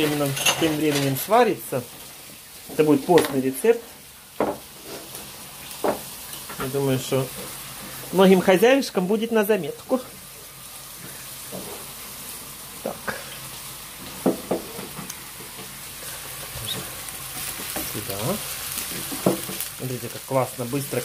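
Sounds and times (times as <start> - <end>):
knocks of stirring in a pan: 0.0 - 21.0
onion sizzling in hot oil: 0.0 - 21.0.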